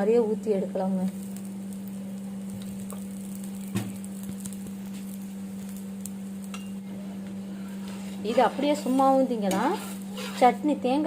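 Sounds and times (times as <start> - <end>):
batter sizzling on a hot griddle: 0.0 - 11.0
steady hum: 0.0 - 11.0.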